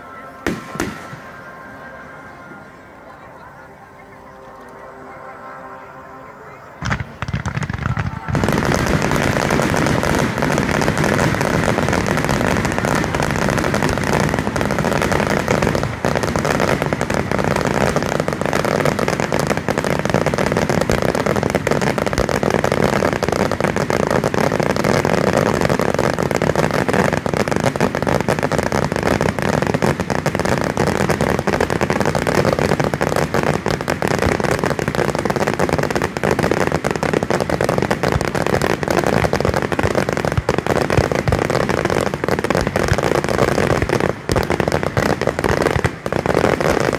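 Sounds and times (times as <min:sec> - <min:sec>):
fireworks bursting and crackling: 0:00.0 - 0:03.4, 0:06.8 - 0:46.9.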